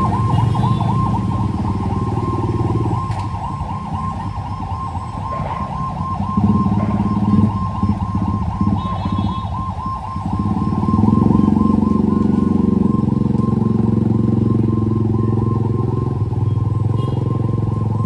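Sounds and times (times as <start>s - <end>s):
siren warbling: 0.0s - 18.0s
vehicle engine running: 0.0s - 18.0s.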